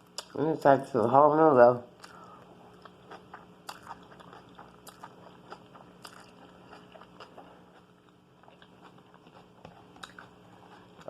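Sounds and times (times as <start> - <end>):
chewing food: 2.0 - 11.0.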